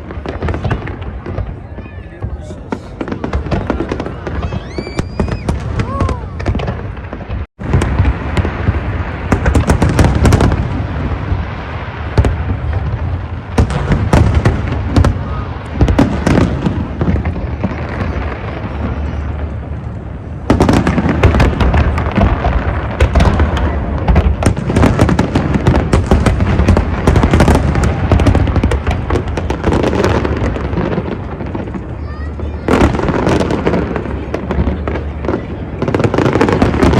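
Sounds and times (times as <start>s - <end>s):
fireworks bangs and crackling: 0.0s - 36.9s.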